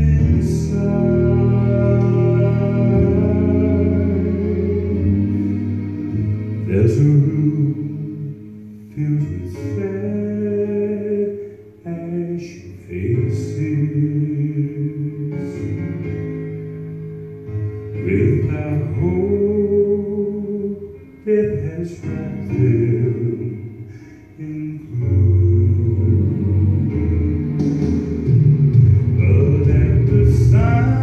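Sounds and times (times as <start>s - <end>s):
man singing gospel song: 0.0s - 5.4s, 6.6s - 16.4s, 18.0s - 27.0s, 28.8s - 31.0s
instrumental accompaniment: 0.0s - 31.0s.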